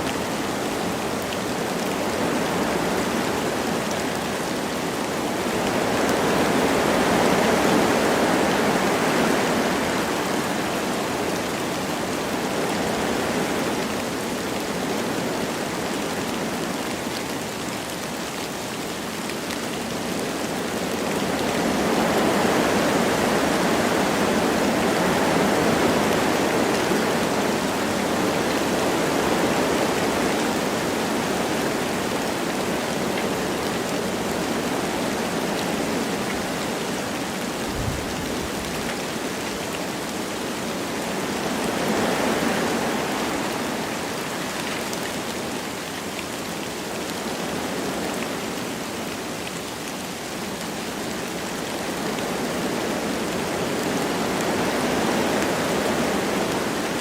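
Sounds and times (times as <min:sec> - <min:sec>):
light rain: 0:00.0 - 0:57.0
wind through forest trees: 0:00.0 - 0:57.0.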